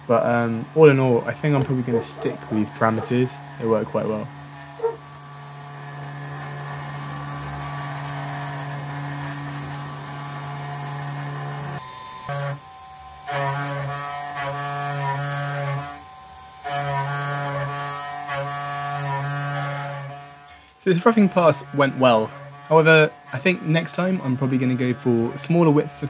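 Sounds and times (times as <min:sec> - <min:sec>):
background music sustained notes: 0:00.0 - 0:26.0
router spindle humming: 0:00.0 - 0:26.0.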